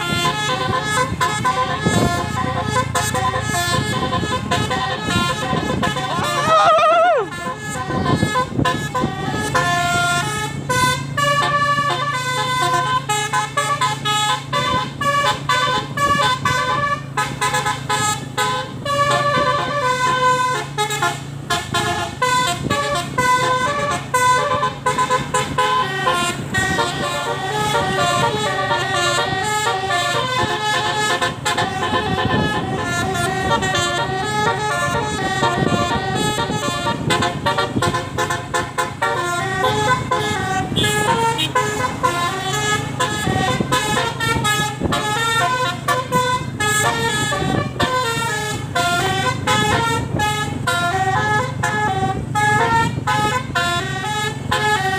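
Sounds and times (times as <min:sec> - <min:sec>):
musical bus air horn: 0:00.0 - 0:54.9.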